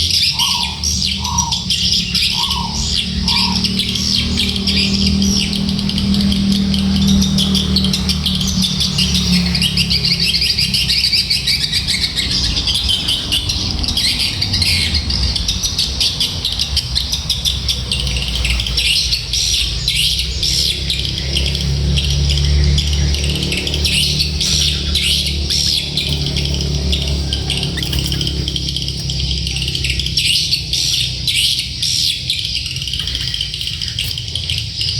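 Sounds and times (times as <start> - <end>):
small birds chirping: 0.0 - 34.9
steady low hum: 0.0 - 34.9.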